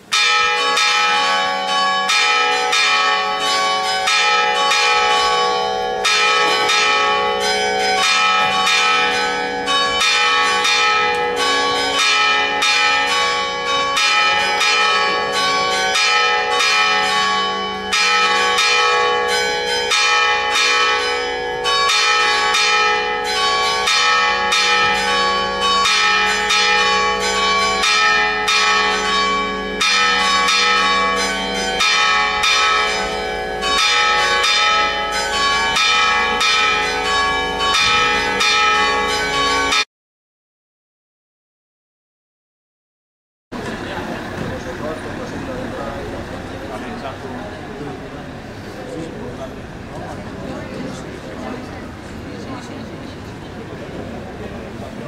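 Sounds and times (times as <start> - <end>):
church bells pealing: 0.0 - 39.9, 43.6 - 55.0.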